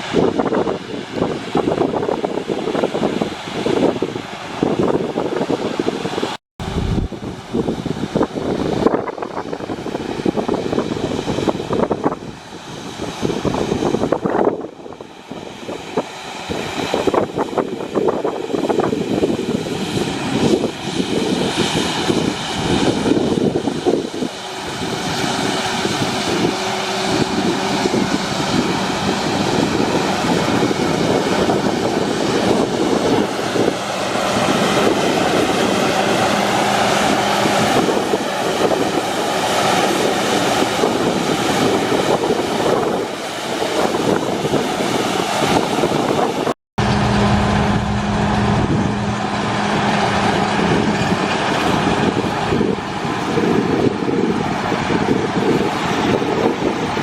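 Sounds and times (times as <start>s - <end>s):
farm machine engine running: 3.8s - 57.0s.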